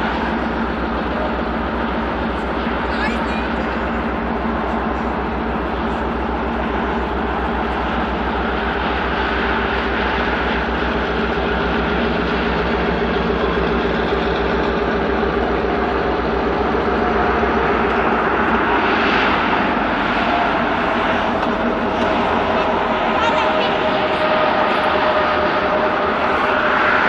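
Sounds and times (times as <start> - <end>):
diesel locomotive engine throbbing: 0.0 - 27.0.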